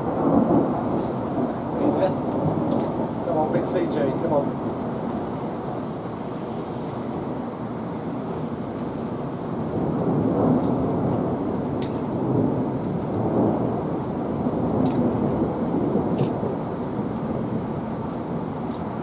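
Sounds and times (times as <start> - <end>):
thunder rolling: 0.0 - 19.0.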